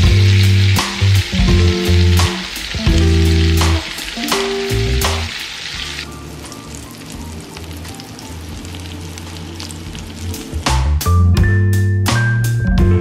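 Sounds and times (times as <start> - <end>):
bread sizzling in a pan: 0.0 - 11.1
background music: 0.0 - 13.0.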